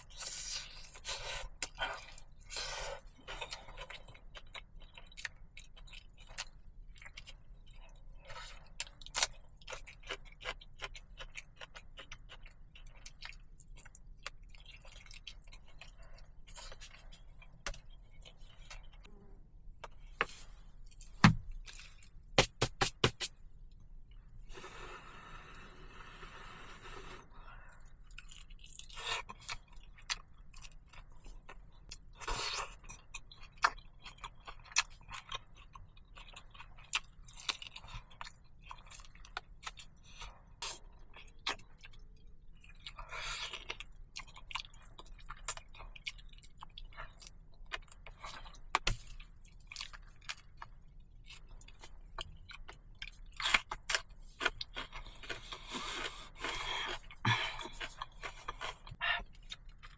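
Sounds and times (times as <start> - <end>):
person chewing and crunching food: 0.0 - 59.9.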